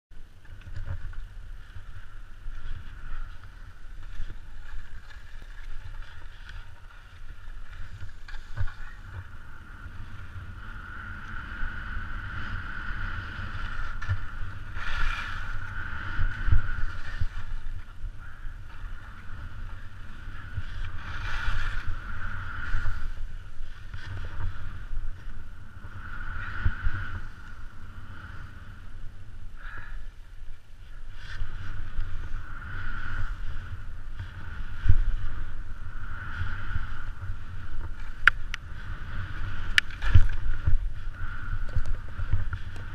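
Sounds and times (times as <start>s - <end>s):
wind on microphone: 0.1s - 42.9s
skis hissing through snow: 1.6s - 18.0s, 18.8s - 28.6s, 30.9s - 42.9s.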